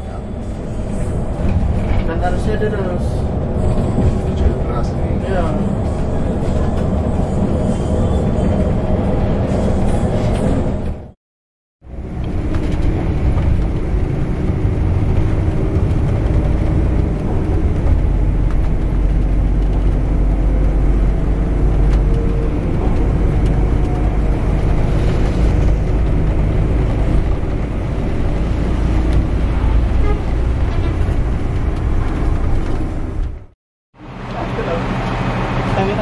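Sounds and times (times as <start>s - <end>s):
coach engine rumble: 0.0s - 11.2s, 11.8s - 36.0s
road noise: 0.0s - 11.2s, 11.8s - 36.0s.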